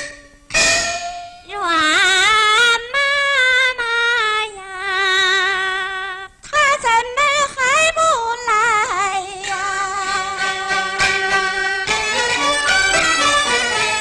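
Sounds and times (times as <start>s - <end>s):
woman singing opera: 1.5s - 13.5s.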